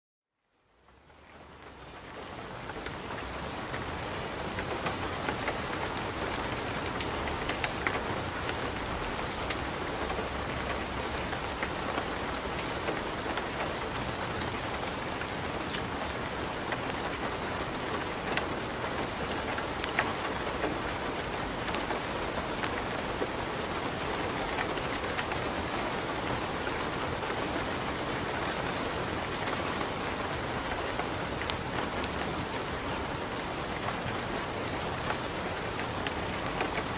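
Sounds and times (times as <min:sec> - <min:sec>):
wood fire crackling and popping: 0:01.5 - 0:36.9.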